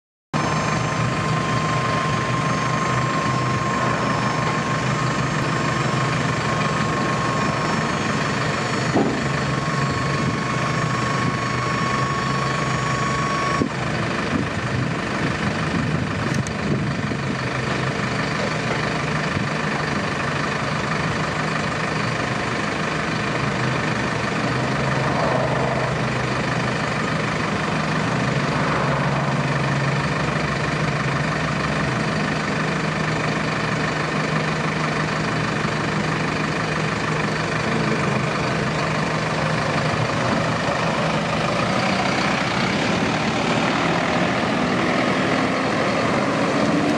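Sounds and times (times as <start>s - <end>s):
diesel truck engine idling: 0.4s - 46.9s.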